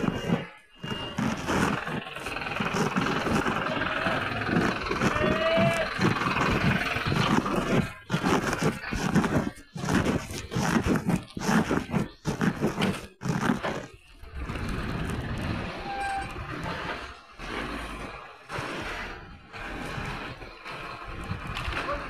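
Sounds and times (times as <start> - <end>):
bicycle running noise: 0.0 - 22.0
garbage truck engine: 0.0 - 22.0.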